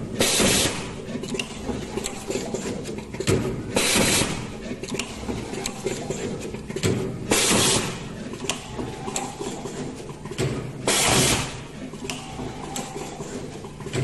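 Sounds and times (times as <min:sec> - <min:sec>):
machine clicking and knocking: 0:00.0 - 0:14.0.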